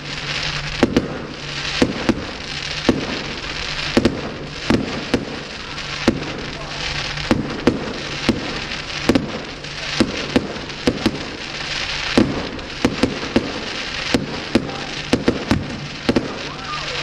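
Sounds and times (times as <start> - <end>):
continuous hiss: 0.0 - 17.0
firework shells bursting: 0.0 - 17.0.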